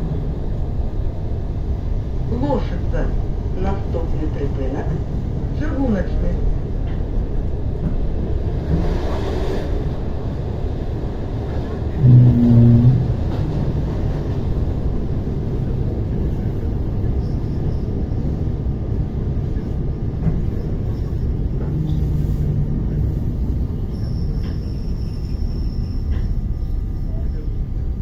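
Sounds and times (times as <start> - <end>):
train interior rumble and hum: 0.0 - 28.0.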